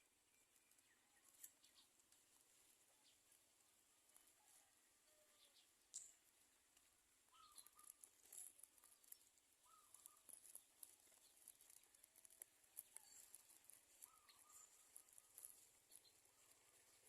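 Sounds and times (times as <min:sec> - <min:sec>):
light ticks and rustles: 0:00.0 - 0:17.0
small birds chirping: 0:00.0 - 0:17.0.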